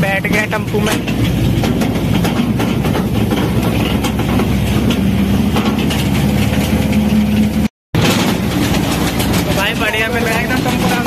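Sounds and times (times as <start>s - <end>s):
engine droning: 0.0s - 11.0s
truck body rattling: 0.0s - 11.0s.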